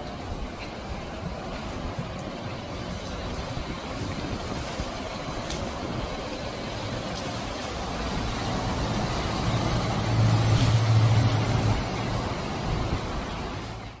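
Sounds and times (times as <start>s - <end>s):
steady rushing noise: 0.0s - 14.0s
vehicle engine hum: 0.0s - 14.0s.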